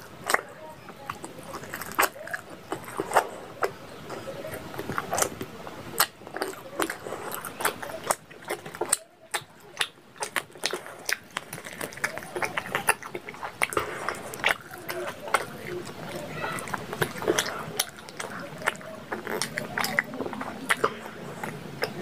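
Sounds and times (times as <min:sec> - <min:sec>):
mouth chewing and smacking: 0:00.0 - 0:22.0.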